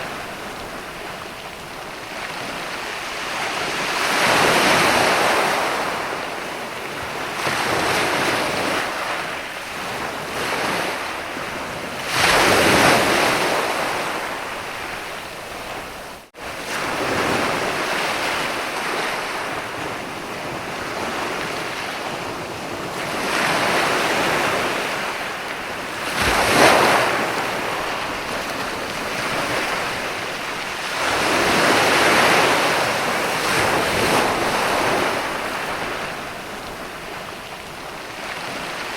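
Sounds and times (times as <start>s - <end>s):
waves washing onto beach: 0.0s - 38.9s.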